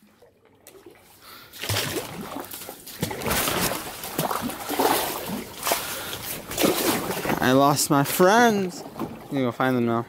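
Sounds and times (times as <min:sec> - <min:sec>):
paddle splashing water: 0:00.0 - 0:10.0.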